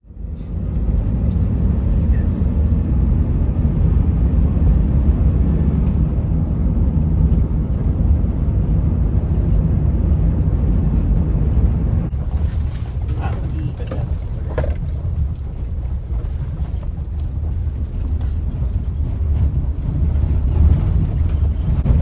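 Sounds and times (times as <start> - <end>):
low rumbling noise: 0.0 - 22.0.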